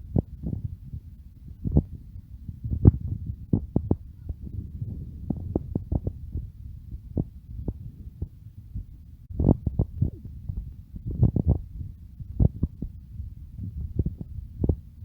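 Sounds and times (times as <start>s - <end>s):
low rumbling microphone noise: 0.0s - 15.0s.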